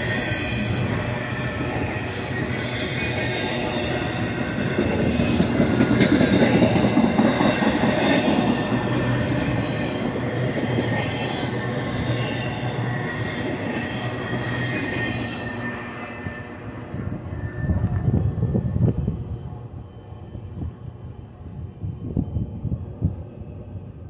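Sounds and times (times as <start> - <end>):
high wheel squeals: 0.0 - 22.6
train wheels rumbling on rails: 0.0 - 24.0.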